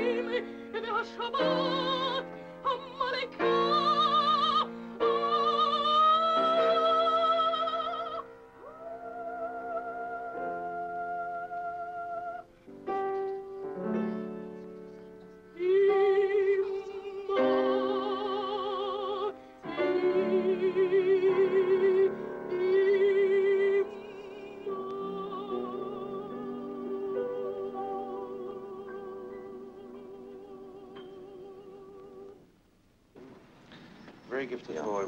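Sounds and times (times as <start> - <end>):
boy singing with vibrato: 0.0 - 12.5, 15.6 - 32.5
piano chords: 0.0 - 32.6.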